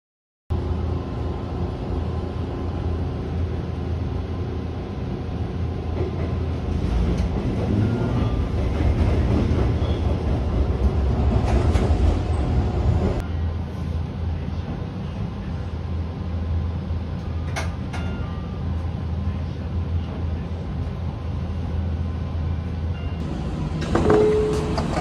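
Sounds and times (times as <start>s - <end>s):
train rumbling: 0.6s - 25.0s.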